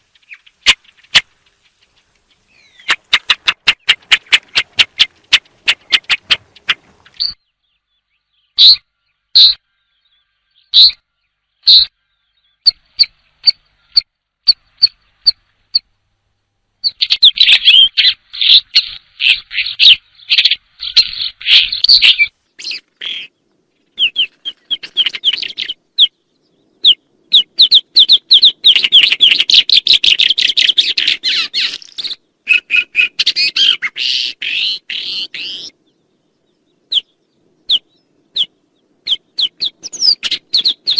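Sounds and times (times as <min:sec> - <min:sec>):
bird twittering song: 0:00.0 - 0:15.9, 0:16.8 - 0:40.9.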